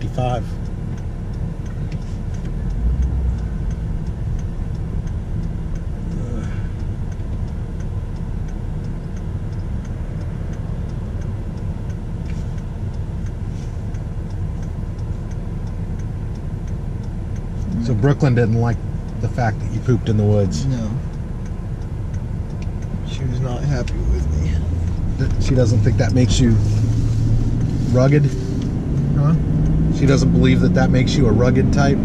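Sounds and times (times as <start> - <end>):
engine and road rumble: 0.0 - 32.0
turn signal ticking: 0.0 - 32.0.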